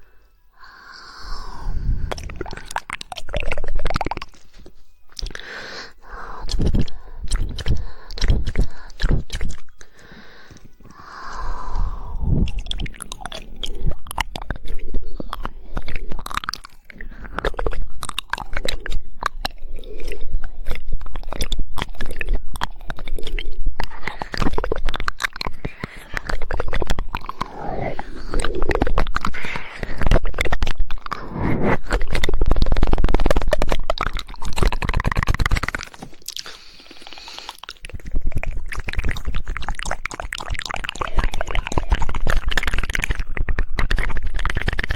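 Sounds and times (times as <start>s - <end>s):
tongue clicks: 0.0s - 44.9s
wet mouth noises: 0.0s - 44.9s.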